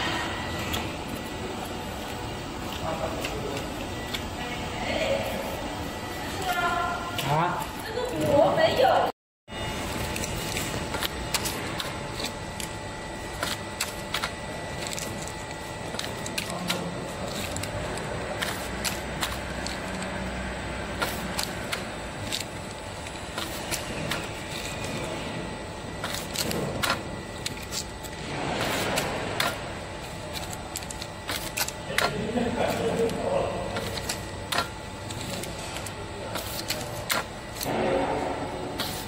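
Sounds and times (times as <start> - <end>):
factory machinery noise: 0.0 - 39.0.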